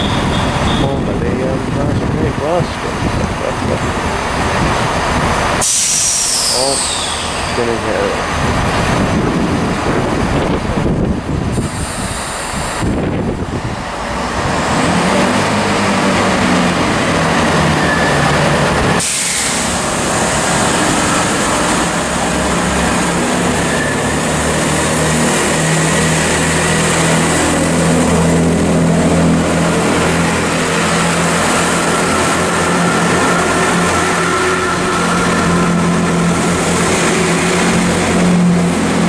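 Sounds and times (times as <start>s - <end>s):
train diesel engine drone: 0.0s - 39.0s.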